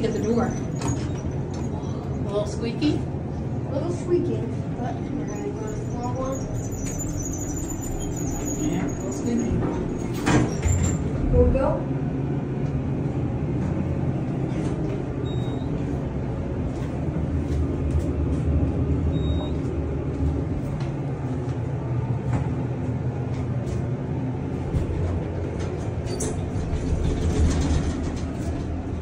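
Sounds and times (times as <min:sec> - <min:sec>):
elevator rumble and hum: 0:00.0 - 0:29.0.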